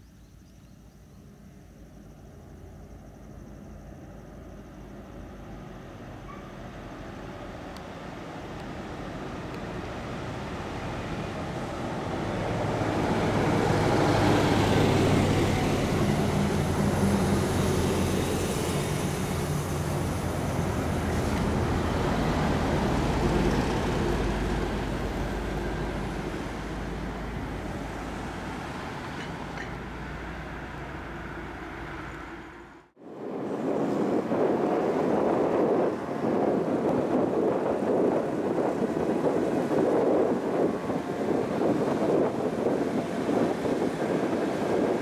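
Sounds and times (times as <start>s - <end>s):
bus diesel engine driving by: 0.0s - 45.0s
passing car traffic: 1.2s - 45.0s.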